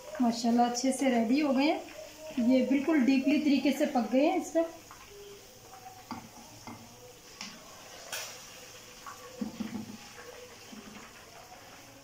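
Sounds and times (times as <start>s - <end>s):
faint frying in oil: 0.0s - 12.0s.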